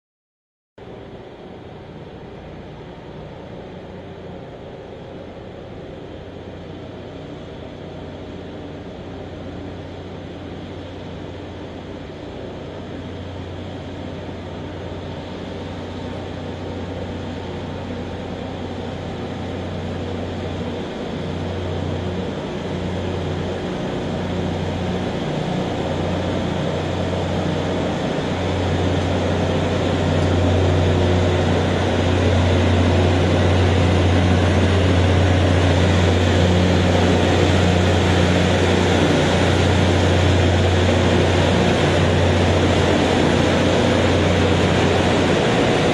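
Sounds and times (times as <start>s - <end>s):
train engine drone: 0.8s - 45.9s.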